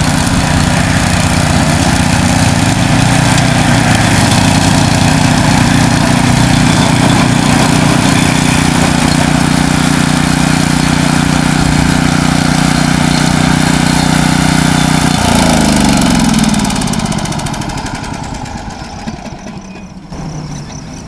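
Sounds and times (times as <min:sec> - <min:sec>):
engine winding down: 0:00.0 - 0:21.0
mower engine running: 0:00.0 - 0:21.0.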